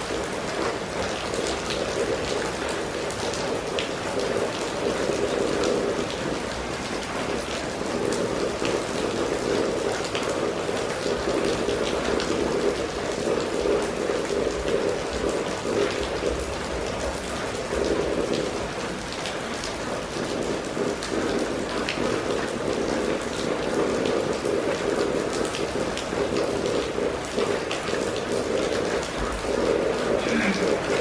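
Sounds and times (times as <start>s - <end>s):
rain falling on wet street: 0.0s - 31.0s.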